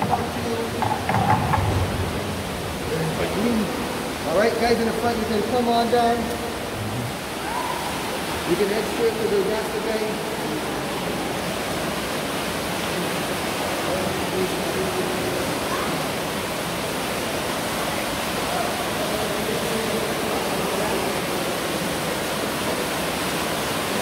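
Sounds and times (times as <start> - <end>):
waterfall rushing into pool: 0.0 - 24.0.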